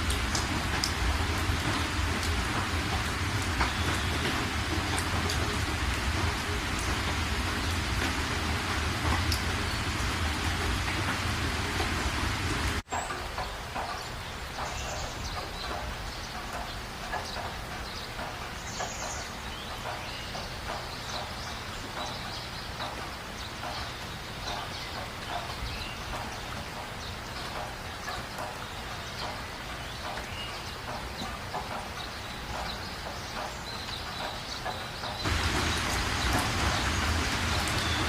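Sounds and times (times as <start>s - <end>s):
low rain hiss: 0.0s - 38.0s
raindrops ticking: 0.0s - 38.0s.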